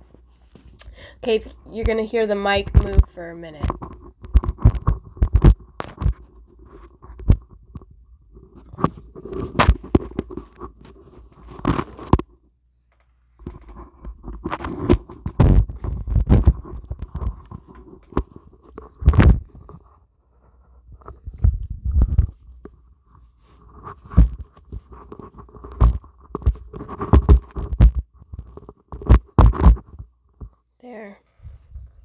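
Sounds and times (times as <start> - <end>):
microphone handling noise: 1.8 - 12.4, 13.4 - 20.0, 20.7 - 30.6, 31.4 - 32.0.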